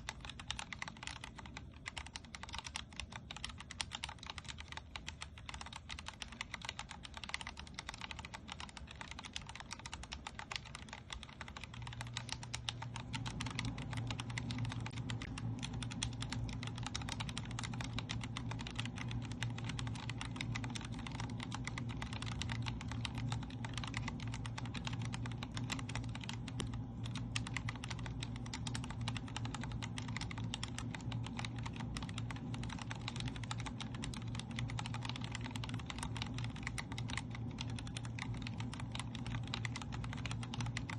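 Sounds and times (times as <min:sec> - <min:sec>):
mechanical keyboard typing: 0:00.0 - 0:40.9
steady low hum: 0:00.0 - 0:40.9.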